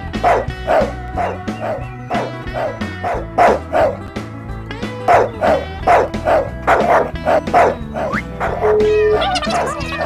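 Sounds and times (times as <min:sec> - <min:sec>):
background music: 0:00.0 - 0:10.0
dog barking: 0:00.2 - 0:04.0, 0:05.1 - 0:10.0.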